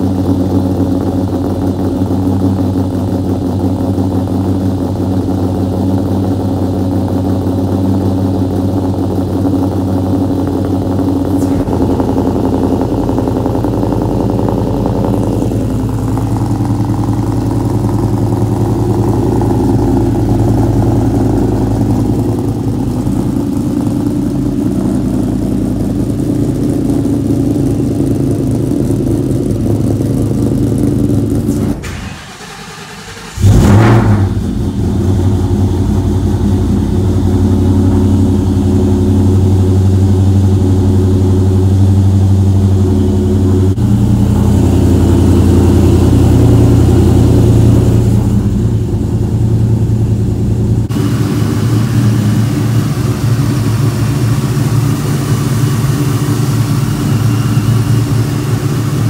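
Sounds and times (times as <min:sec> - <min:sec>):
loud engine idling: 0:00.0 - 0:59.0.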